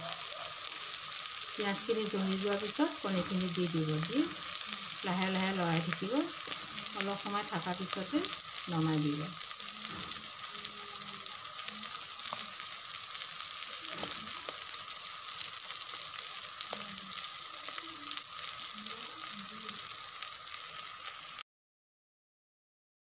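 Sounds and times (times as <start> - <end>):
food sizzling in oil: 0.0 - 21.4.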